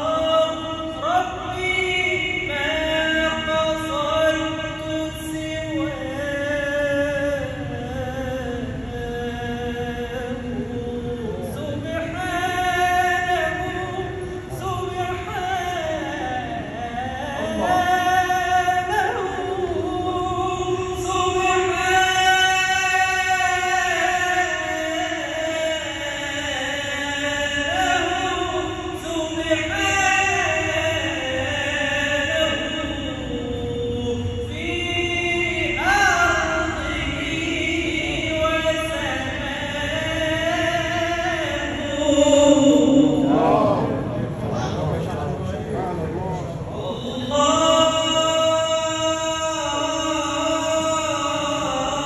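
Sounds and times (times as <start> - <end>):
man chanting: 0.0 - 52.0.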